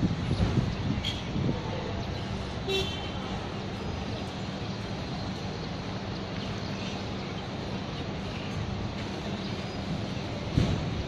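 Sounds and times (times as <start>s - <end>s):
distant street traffic rumble: 0.0s - 11.0s.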